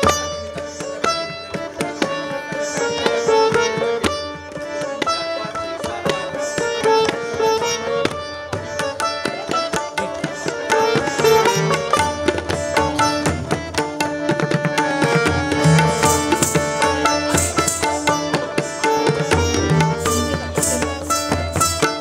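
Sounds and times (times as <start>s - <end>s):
sitar melody: 0.0s - 22.0s.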